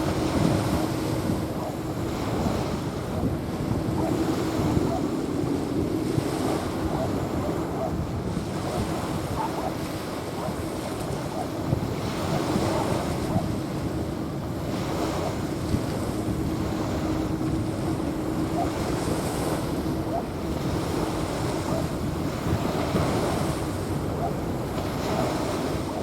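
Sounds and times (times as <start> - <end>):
small waves washing onto beach: 0.0 - 26.0
wind buffeting microphone: 0.0 - 26.0.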